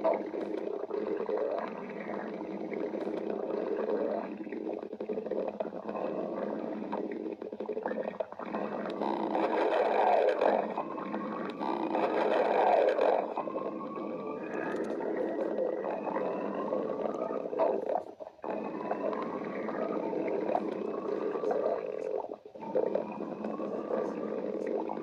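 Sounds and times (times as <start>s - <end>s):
stomach growling: 0.0s - 25.0s
thin drawn-out whine: 0.0s - 25.0s.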